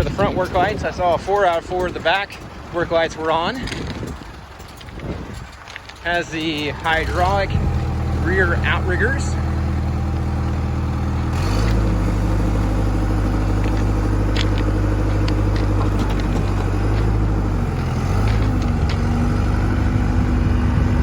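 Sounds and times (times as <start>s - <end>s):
diesel engine running: 0.0s - 4.7s, 6.0s - 21.0s.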